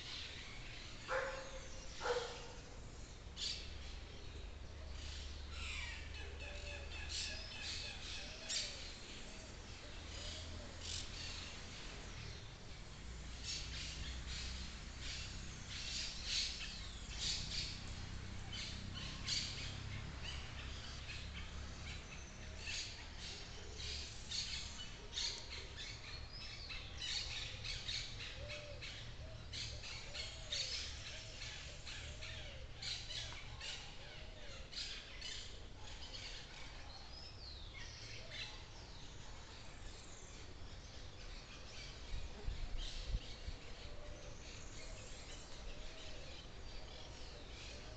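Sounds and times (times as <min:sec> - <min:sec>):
birds chirping and calling: 0:00.0 - 0:47.9.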